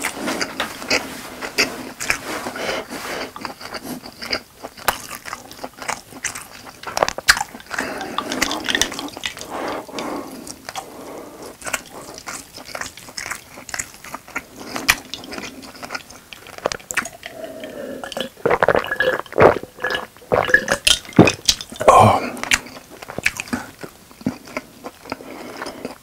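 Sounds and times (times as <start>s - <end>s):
gulping and swallowing a drink: 3.3s - 10.1s, 11.6s - 26.0s
wet chewing clicks: 3.3s - 26.0s.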